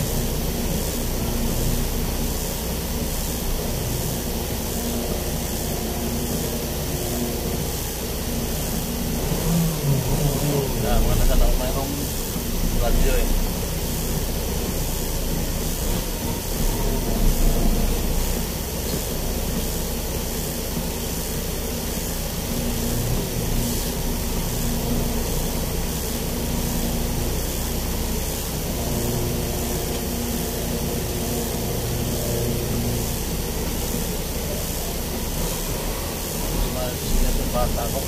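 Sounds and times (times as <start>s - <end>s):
vehicle engine rumble from cab: 0.0s - 38.0s.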